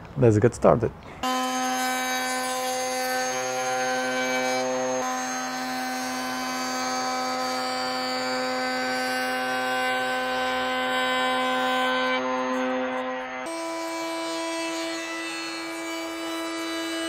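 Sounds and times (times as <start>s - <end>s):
table router high whine: 1.2s - 17.0s.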